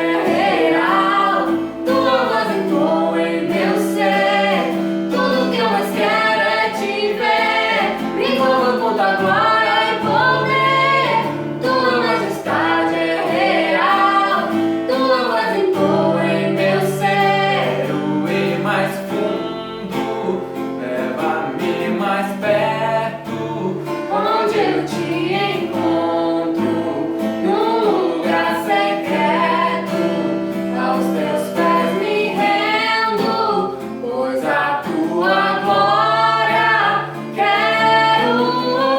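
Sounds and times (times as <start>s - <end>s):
woman singing: 0.0s - 19.2s, 20.9s - 38.9s.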